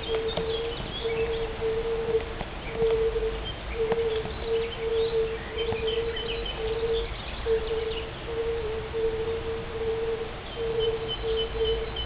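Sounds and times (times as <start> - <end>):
faint birds chirping: 0.0 - 12.0
toads hooting: 0.0 - 12.0.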